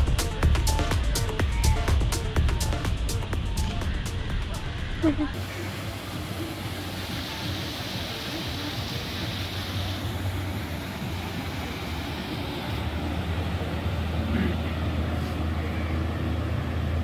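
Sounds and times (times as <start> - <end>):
boat engine humming: 0.0 - 17.0
water wash: 0.0 - 17.0.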